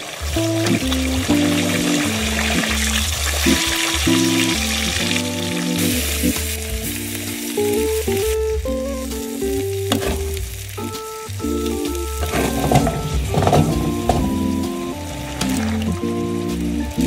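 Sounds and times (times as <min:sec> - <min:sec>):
background music: 0:00.0 - 0:17.0
steak sizzling in oil: 0:00.0 - 0:17.0.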